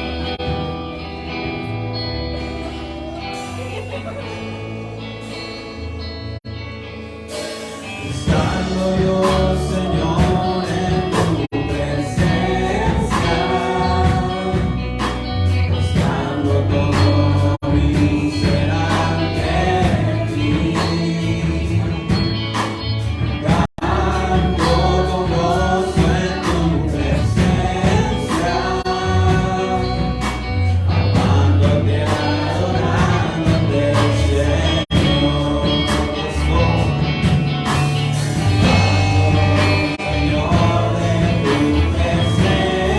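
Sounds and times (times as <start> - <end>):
group of voices singing: 0.0 - 5.6, 7.4 - 42.9
band with bass playing: 0.0 - 42.9.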